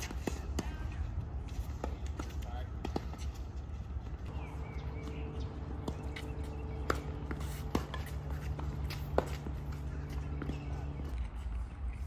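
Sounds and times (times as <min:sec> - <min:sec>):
tennis balls struck by racquets: 0:00.0 - 0:03.9, 0:05.0 - 0:11.1
steady low hum: 0:00.0 - 0:12.0.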